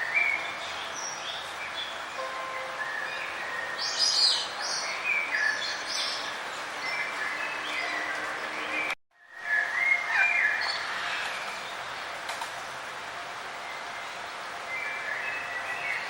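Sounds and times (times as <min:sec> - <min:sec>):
birds chirping and trilling: 0:00.0 - 0:16.0
steady background hiss: 0:00.0 - 0:16.0.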